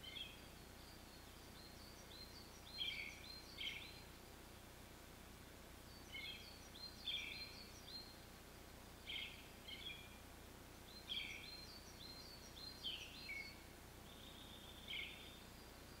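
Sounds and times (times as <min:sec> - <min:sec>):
faint steady low hum: 0:00.0 - 0:16.0
songbird chirps: 0:00.0 - 0:16.0.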